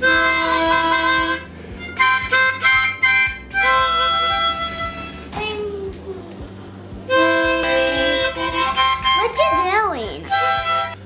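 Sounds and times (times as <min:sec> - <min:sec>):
harmonica blues riff: 0:00.0 - 0:05.8, 0:06.9 - 0:11.0.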